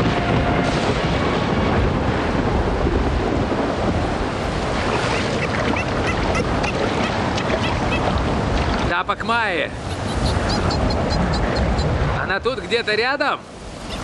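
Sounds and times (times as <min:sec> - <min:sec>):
waves and surf rushing: 0:00.0 - 0:14.0
wind: 0:00.0 - 0:14.0.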